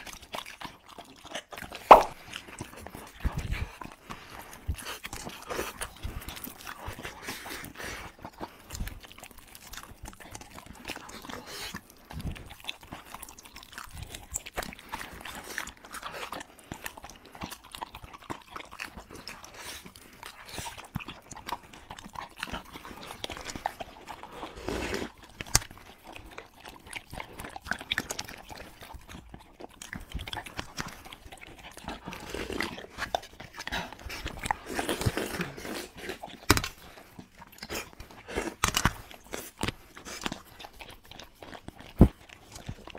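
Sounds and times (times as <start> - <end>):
wet chewing and smacking: 0.0 - 42.9.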